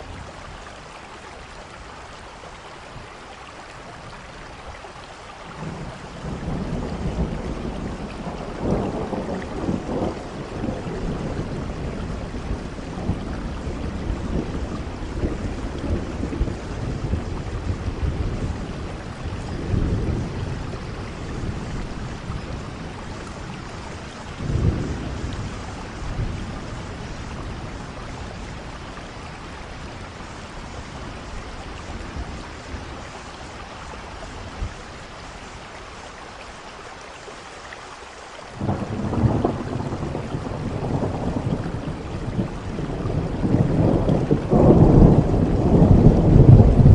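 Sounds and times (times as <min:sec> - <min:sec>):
steady rain: 0:00.0 - 0:46.9
thunder rumbling: 0:05.6 - 0:35.1, 0:38.6 - 0:46.9.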